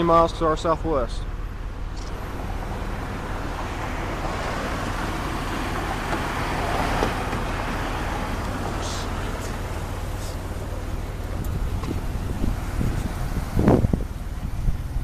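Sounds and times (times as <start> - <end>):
passing cars: 0.0 - 15.0.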